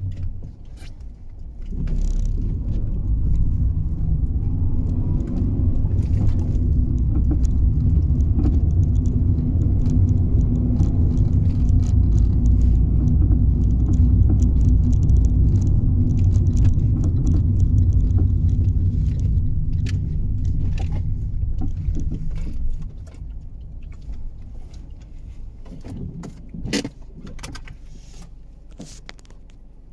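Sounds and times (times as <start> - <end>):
knocks and rattles under car: 0.0 - 29.5
car road and engine rumble: 0.0 - 29.9.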